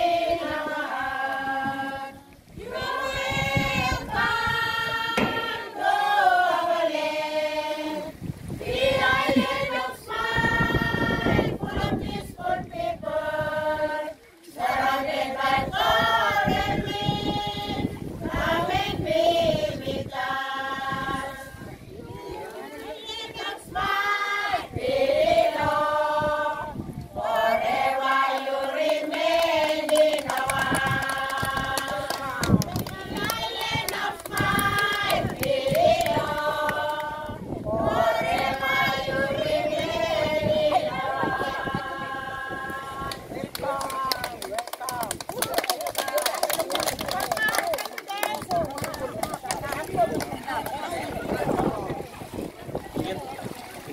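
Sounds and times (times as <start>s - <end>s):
women and children singing: 0.0s - 43.8s.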